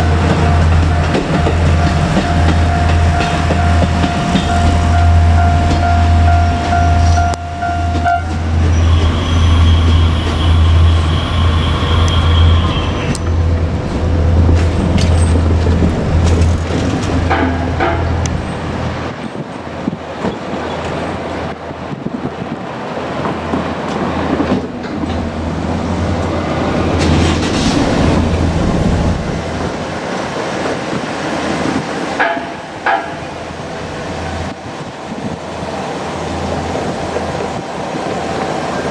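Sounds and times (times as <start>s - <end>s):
diesel railcar rumble: 0.0s - 38.9s.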